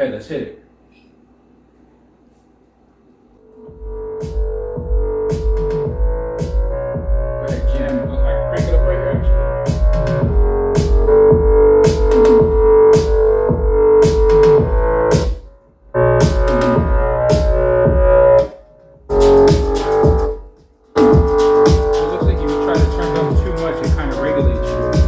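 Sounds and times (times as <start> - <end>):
electronic pop music on speaker: 3.4 - 25.0.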